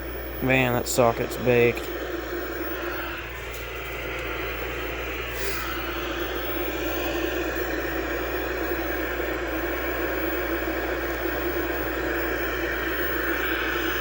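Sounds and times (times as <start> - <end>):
television hum and static hiss: 0.0 - 14.0.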